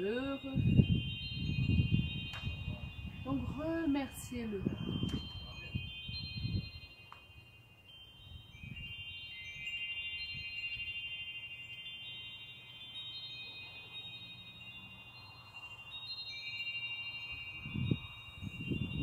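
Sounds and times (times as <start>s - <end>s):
hand chime ringing: 0.0s - 19.0s.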